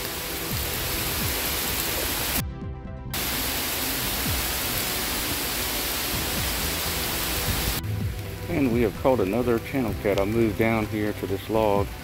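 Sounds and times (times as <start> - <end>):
heavy rain on a pond: 0.0 - 2.4, 3.1 - 12.0.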